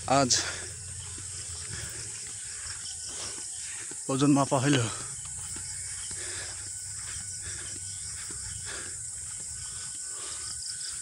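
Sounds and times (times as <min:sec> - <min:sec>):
footsteps: 0:00.0 - 0:11.0
insects chorus: 0:00.0 - 0:11.0.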